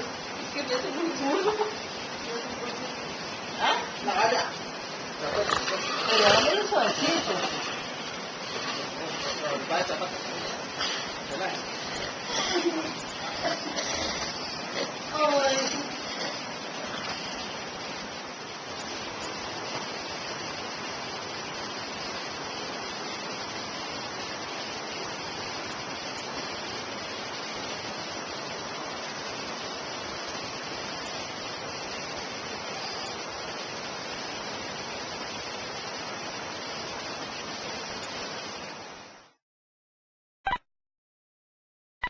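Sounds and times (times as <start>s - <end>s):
steady rushing hiss: 0.0s - 39.4s.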